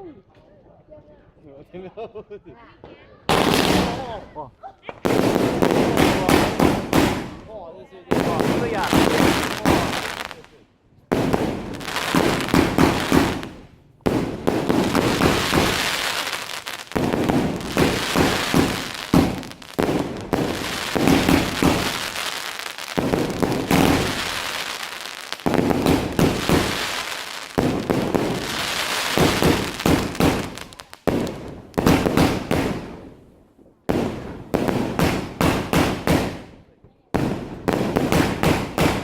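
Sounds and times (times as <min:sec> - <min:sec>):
fireworks bangs and crackles: 0:03.3 - 0:04.3, 0:05.0 - 0:39.0.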